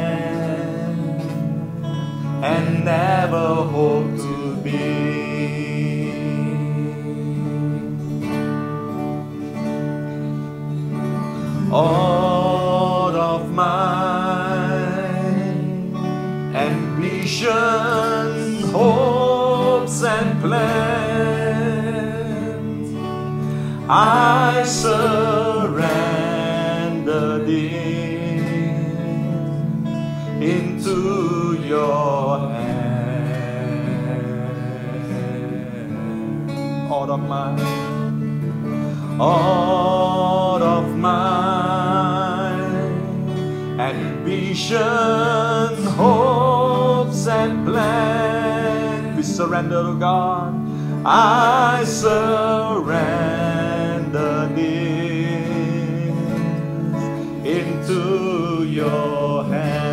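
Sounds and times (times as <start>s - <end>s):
person singing with vibrato: 0.0s - 9.6s, 11.0s - 59.9s
guitar accompaniment: 0.0s - 59.9s.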